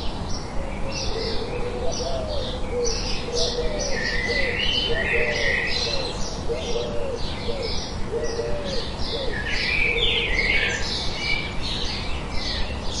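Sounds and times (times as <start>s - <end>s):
songbirds chirping: 0.0s - 13.0s
dove-like cooing: 0.6s - 11.0s.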